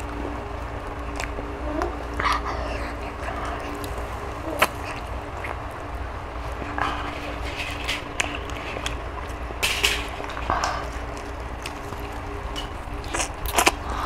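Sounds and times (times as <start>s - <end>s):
people eating and handling food: 0.0s - 14.0s
steady low hum: 0.0s - 14.0s.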